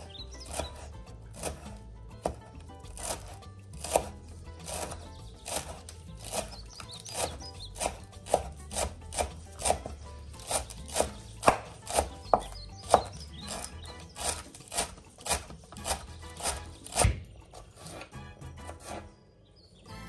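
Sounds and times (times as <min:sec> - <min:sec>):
knife chopping herbs on wood: 0:00.0 - 0:19.1.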